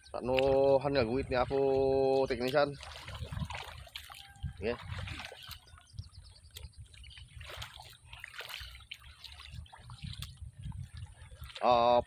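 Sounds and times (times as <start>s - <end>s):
soft splashes: 0.0s - 12.0s
water trickling and sloshing: 0.0s - 12.0s.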